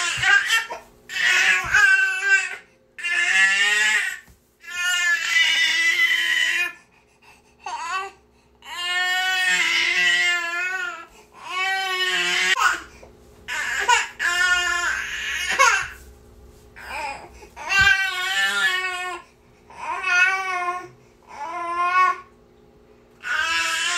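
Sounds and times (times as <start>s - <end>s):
infant crying: 0.0s - 6.8s, 7.6s - 12.9s, 13.5s - 16.0s, 16.8s - 22.3s, 23.2s - 23.9s.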